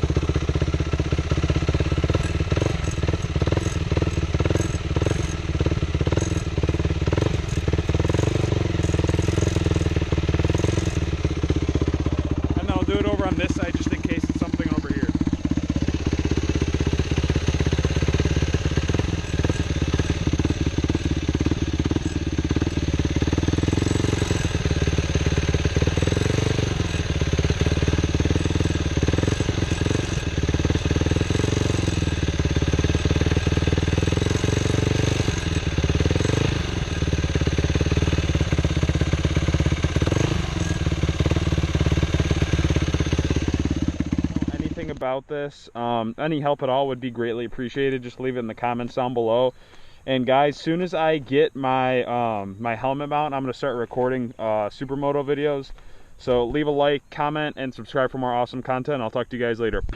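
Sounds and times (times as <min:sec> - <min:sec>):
motorcycle engine running: 0:00.0 - 0:56.6
engine rattling noise: 0:00.0 - 0:59.9.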